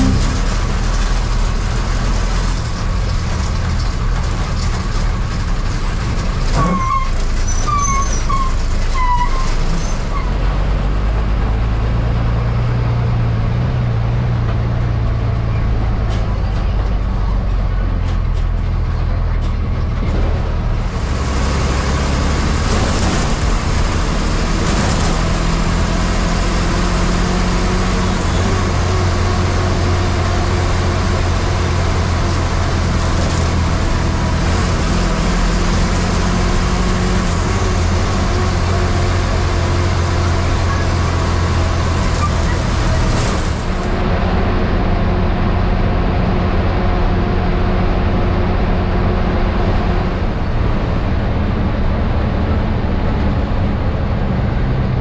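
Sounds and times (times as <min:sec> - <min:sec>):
bus engine running: 0:00.0 - 0:55.0
road and wind noise: 0:00.0 - 0:55.0.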